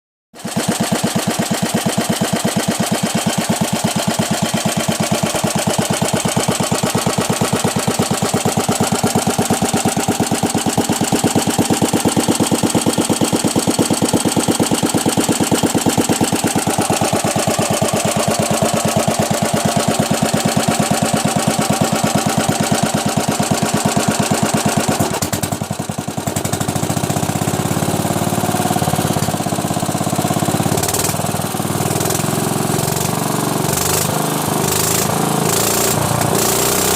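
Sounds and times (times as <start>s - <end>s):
stationary engine running: 0.4s - 36.9s.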